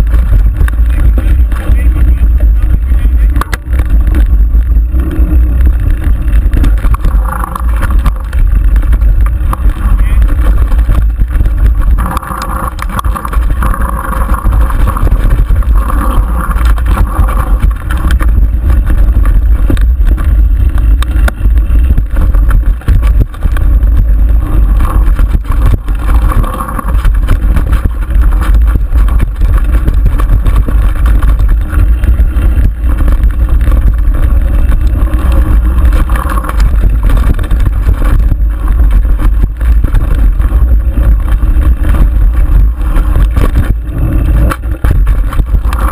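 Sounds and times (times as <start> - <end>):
bike rattles and knocks: 0.0 - 45.9
bike rumbling on dirt trail: 0.0 - 45.9.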